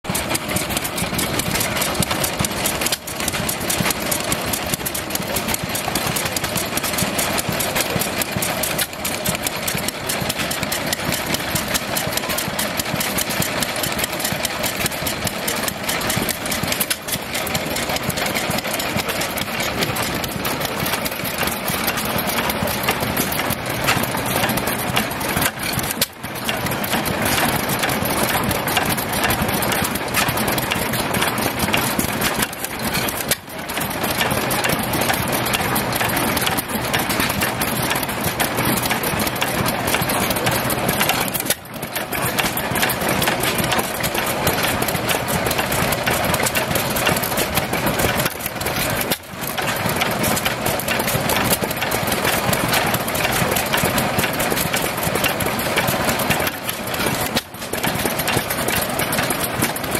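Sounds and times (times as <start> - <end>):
stationary gas engines running: 0.0 - 59.9.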